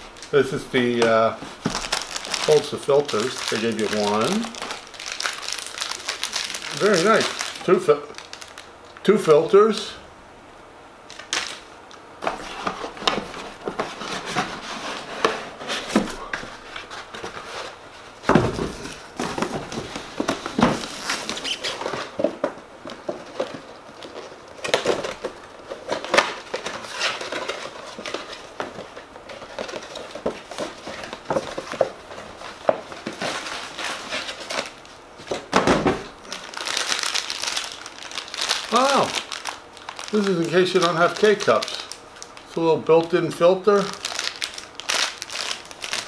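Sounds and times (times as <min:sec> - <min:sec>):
packaging rustling: 0:00.0 - 0:08.8, 0:11.1 - 0:11.6, 0:12.2 - 0:46.0
hands handling plastic parts: 0:00.1 - 0:08.7, 0:12.2 - 0:42.6.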